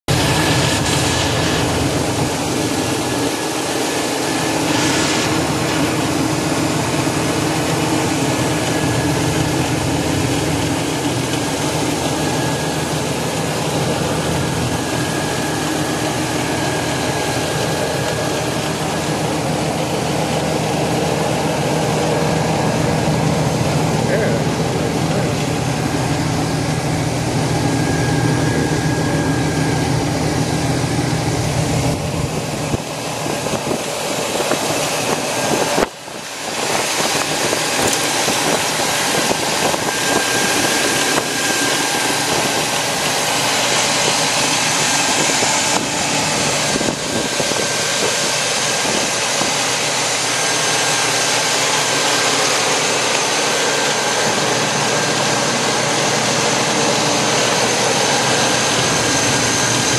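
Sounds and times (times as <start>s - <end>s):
truck engine idling: 0.0s - 59.9s
faint steady whine: 0.1s - 59.9s.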